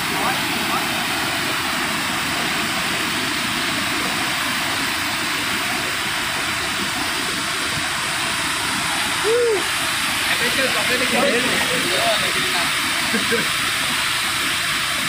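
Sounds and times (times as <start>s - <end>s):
water rushing over a dam: 0.0s - 15.0s.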